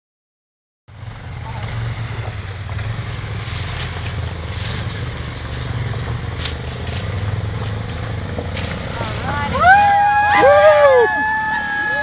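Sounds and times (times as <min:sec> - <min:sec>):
atv engine running: 0:00.9 - 0:12.0.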